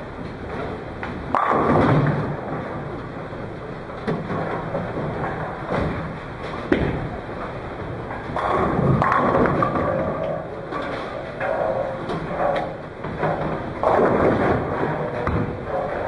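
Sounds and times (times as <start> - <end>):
bowling balls thudding and rolling: 0.0 - 16.0
bowling pins clattering: 0.0 - 16.0.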